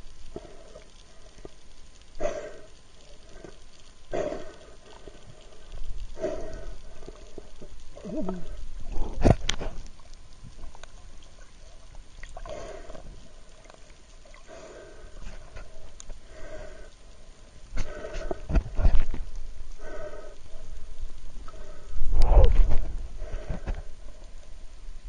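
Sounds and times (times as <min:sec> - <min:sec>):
muffled snorkel breathing: 0:00.2 - 0:10.0, 0:10.9 - 0:24.6.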